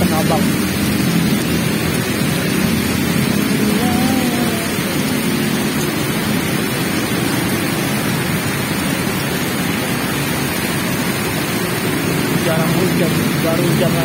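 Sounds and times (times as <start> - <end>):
heavy rain on a wet road: 0.0 - 14.0.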